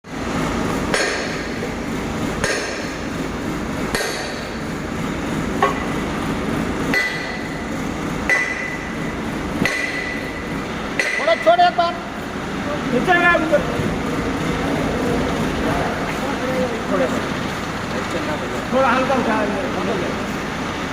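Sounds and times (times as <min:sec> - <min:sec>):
steady background noise: 0:00.0 - 0:20.9.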